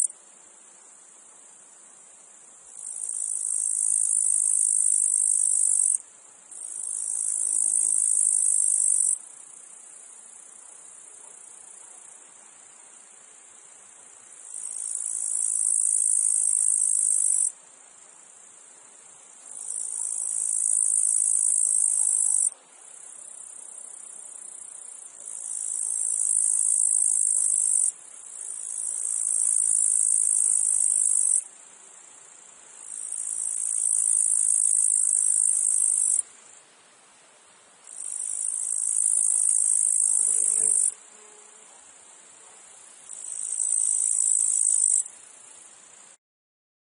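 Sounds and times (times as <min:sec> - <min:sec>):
faint steady insect buzz: 0:00.0 - 0:46.2
cicadas buzzing: 0:02.4 - 0:12.2, 0:13.6 - 0:36.8, 0:37.8 - 0:46.0.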